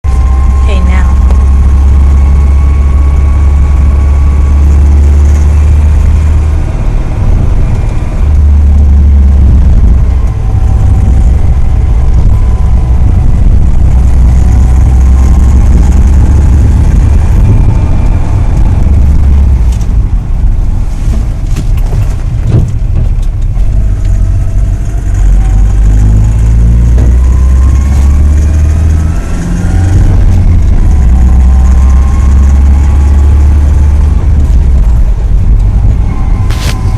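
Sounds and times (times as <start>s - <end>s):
car engine running: 0.0s - 36.9s.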